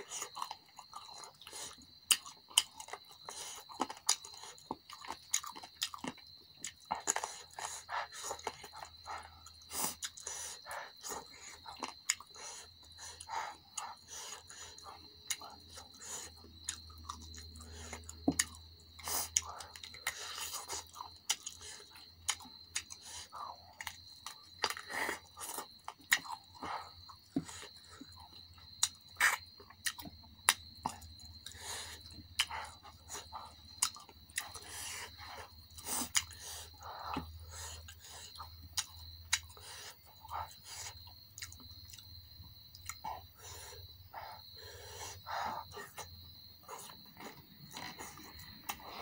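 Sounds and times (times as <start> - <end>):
wet chewing and lip-smacking: 0.0 - 49.0.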